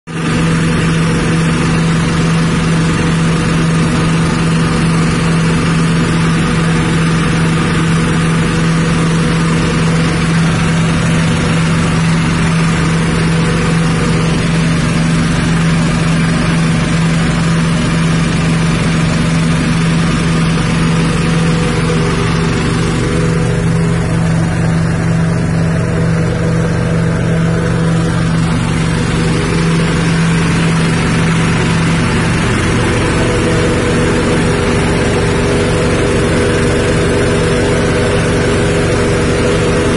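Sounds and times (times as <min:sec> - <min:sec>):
engine-driven grinding mill running: 0:00.1 - 0:39.9.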